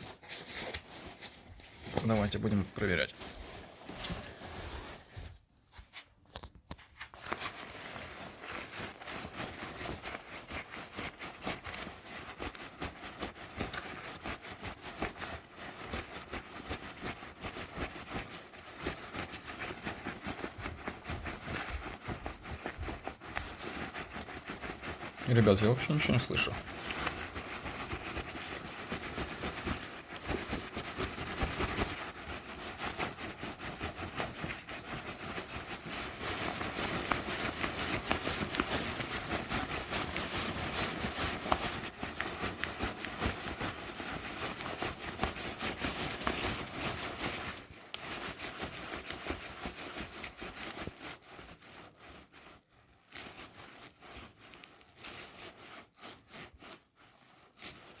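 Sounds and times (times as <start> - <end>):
backpack fabric rustling: 0.0 - 6.2, 7.0 - 58.0.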